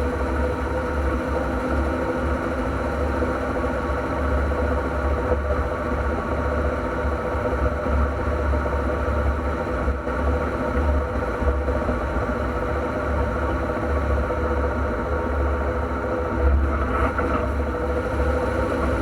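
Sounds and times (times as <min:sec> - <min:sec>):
engine low rumble: 0:00.0 - 0:19.0.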